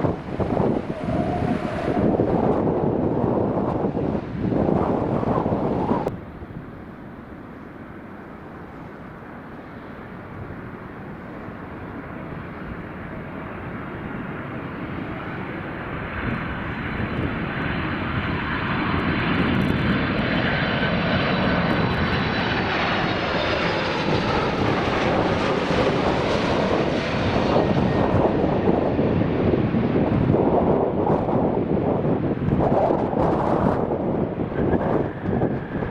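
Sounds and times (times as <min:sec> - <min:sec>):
passenger aircraft engines: 0:00.0 - 0:35.9.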